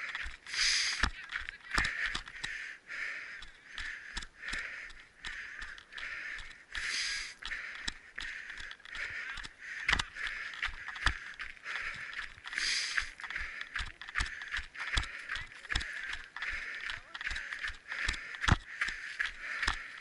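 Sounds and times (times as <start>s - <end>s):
person breathing hard: 0.0s - 1.1s, 1.8s - 20.0s.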